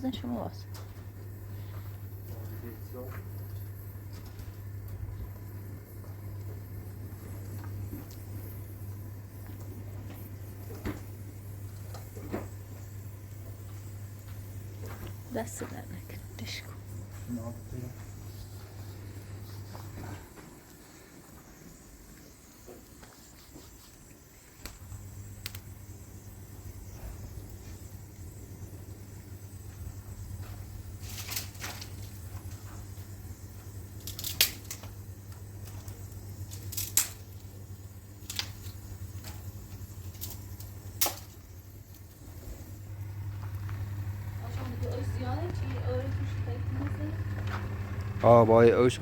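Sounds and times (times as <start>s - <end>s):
washing machine motor humming: 0.0s - 49.0s.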